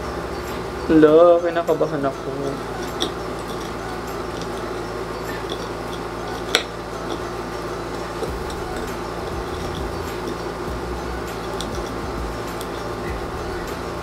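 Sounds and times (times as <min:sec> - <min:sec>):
steady low hum: 0:00.0 - 0:14.0
fork scraping on a plate: 0:02.5 - 0:14.0.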